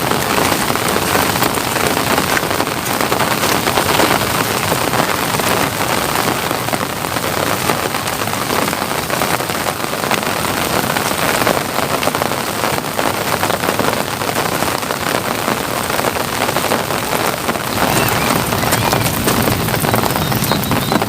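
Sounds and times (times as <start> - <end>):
light rain falling: 0.0 - 21.0.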